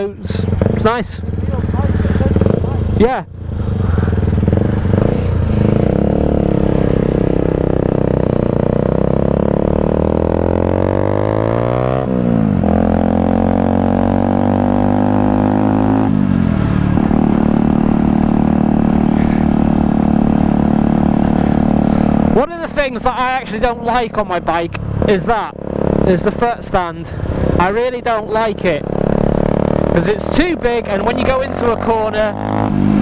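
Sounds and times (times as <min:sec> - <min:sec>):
motorcycle engine revving through gears: 0:00.0 - 0:33.0.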